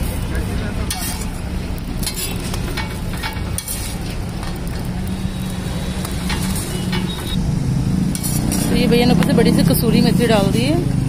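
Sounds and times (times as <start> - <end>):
spatula scraping on iron griddle: 0.0 - 7.3, 8.1 - 10.6.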